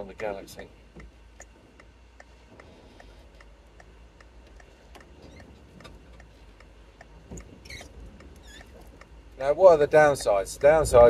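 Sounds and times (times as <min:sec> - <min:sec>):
car engine and road hum: 0:00.0 - 0:11.0
turn signal ticking: 0:00.0 - 0:11.0.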